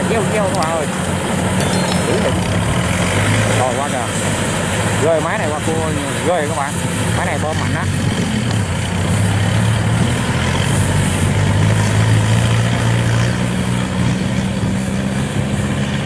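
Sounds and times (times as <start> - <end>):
diesel engine drone: 2.2 - 16.0.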